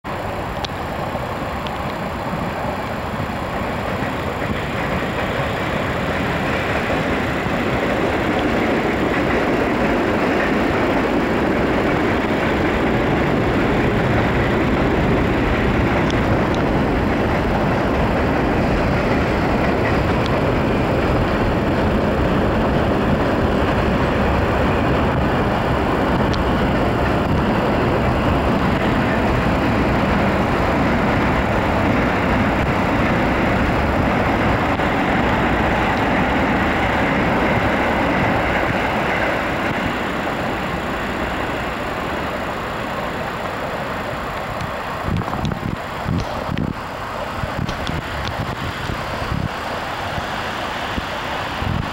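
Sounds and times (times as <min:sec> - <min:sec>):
electric trains rumbling: 0:00.0 - 0:51.9.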